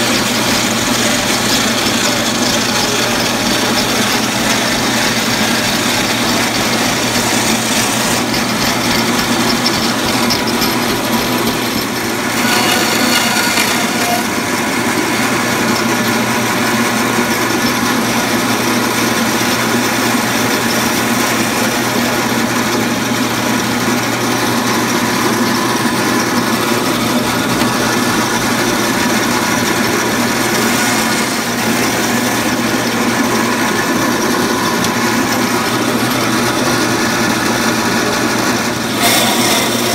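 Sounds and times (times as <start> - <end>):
band saw motor humming: 0.0 - 39.9.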